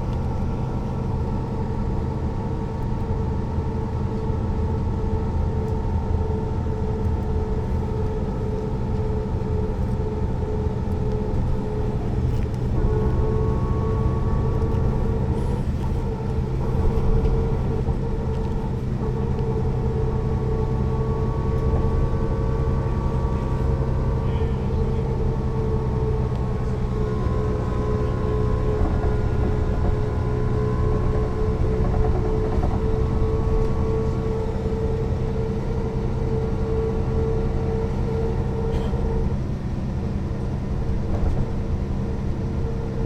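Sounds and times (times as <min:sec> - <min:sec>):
bus diesel engine drone: 0:00.0 - 0:43.0
constant whine: 0:00.0 - 0:43.0.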